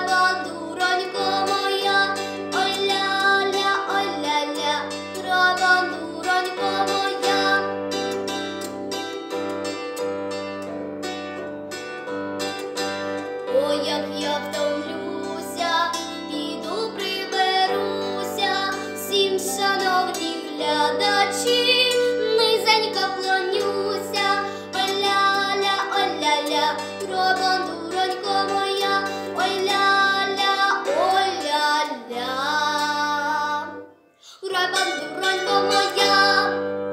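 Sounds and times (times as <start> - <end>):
girl singing: 0.0 - 8.3, 13.4 - 36.9
plucked bandura strings: 0.0 - 36.9.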